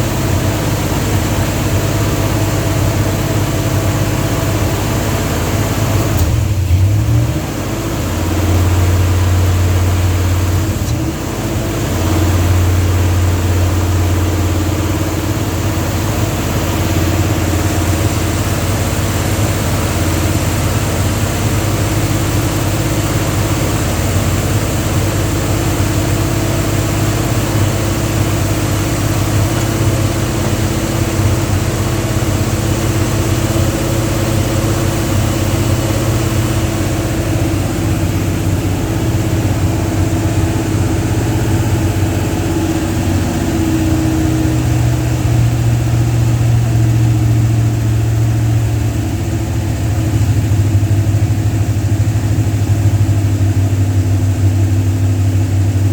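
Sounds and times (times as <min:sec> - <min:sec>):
car engine at raised idle: 0:00.0 - 0:55.9.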